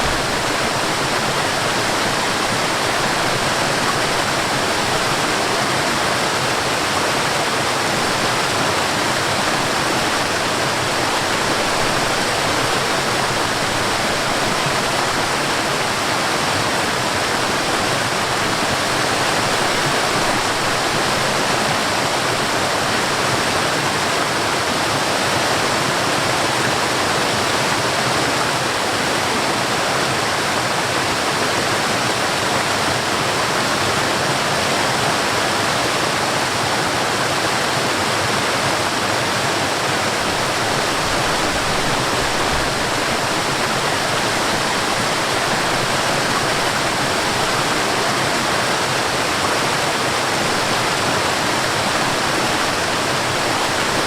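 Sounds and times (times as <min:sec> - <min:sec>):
water rushing over waterfall: 0:00.0 - 0:54.0.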